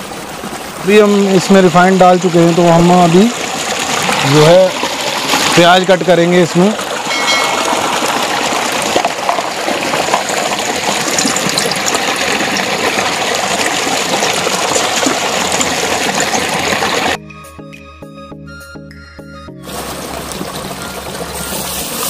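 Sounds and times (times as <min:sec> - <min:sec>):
water gushing into a concrete tank: 0:00.0 - 0:17.2, 0:19.6 - 0:22.0.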